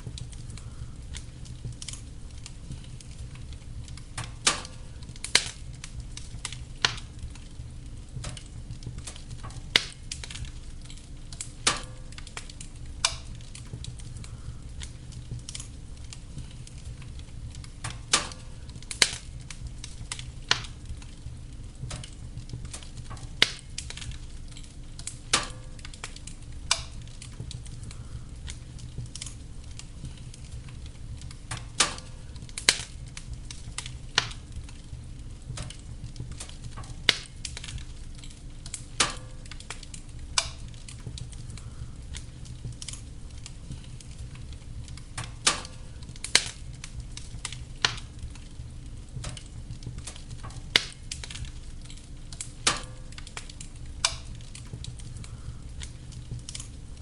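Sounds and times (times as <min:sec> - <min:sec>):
logs popping and crackling: 0:00.0 - 0:57.0
wood fire rumble and hiss: 0:00.0 - 0:57.0.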